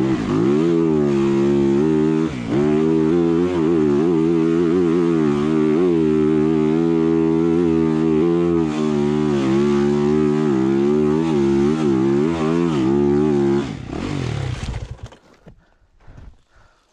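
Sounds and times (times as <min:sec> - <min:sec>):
dirt bike engine revving: 0:00.0 - 0:15.1.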